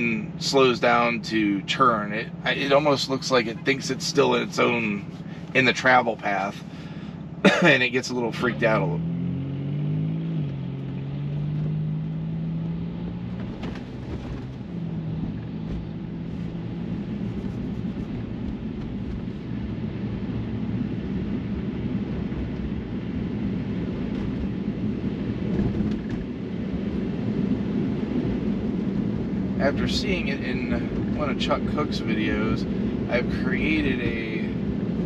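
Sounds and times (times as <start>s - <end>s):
road and tyre noise: 0.0s - 35.0s.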